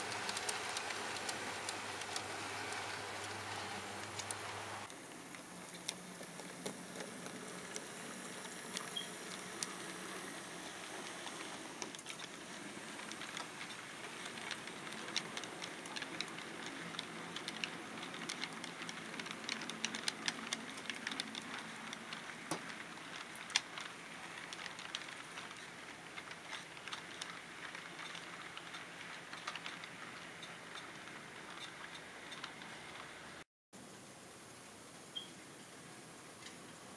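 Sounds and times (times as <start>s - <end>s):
faint motor hum: 0.0s - 33.4s
model train wheels clicking on track: 0.0s - 33.4s.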